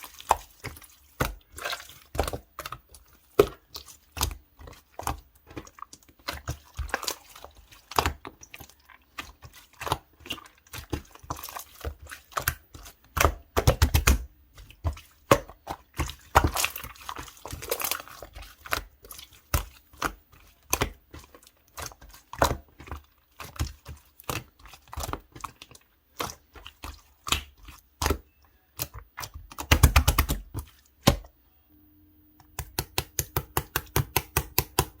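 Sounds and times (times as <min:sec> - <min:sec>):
slime squishing with sticky clicks: 0:00.0 - 0:31.4, 0:32.2 - 0:35.0.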